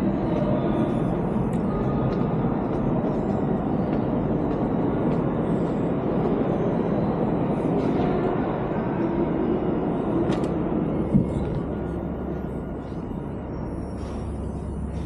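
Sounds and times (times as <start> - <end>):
subway station rumble: 0.0 - 15.0.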